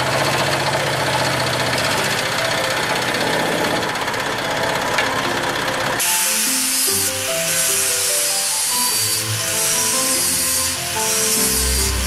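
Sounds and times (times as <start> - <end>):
power saw cutting wood: 0.0 - 12.0.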